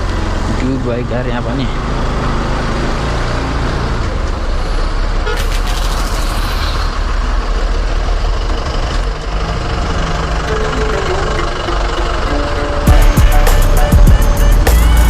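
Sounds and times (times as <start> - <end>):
vehicle rumbling on dirt road: 0.0 - 15.0.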